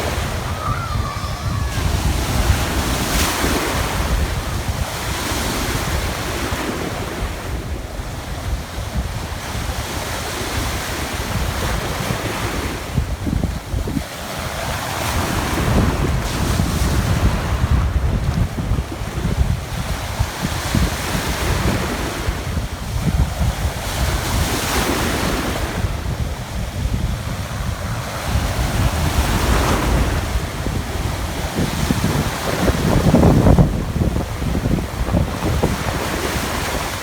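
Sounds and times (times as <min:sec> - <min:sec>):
sea waves breaking: 0:00.0 - 0:37.0
wind buffeting microphone: 0:00.0 - 0:37.0.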